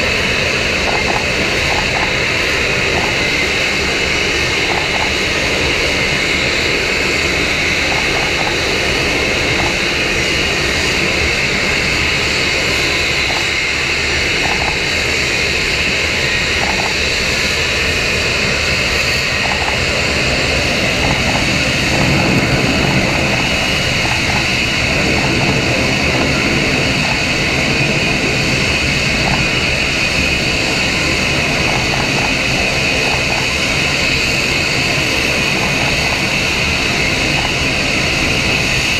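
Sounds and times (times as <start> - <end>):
high engine whine: 0.0 - 38.9
jet engine rushing roar: 0.0 - 38.9.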